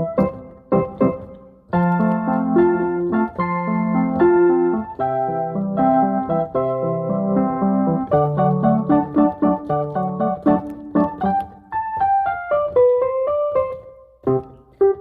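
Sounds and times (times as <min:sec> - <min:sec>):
keyboard instrumental music: 0:00.0 - 0:15.0.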